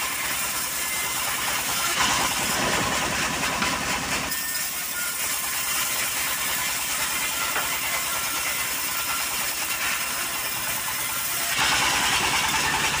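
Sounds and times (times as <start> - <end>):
circular saw whirring: 0.0 - 13.0
diesel engine running: 0.0 - 13.0.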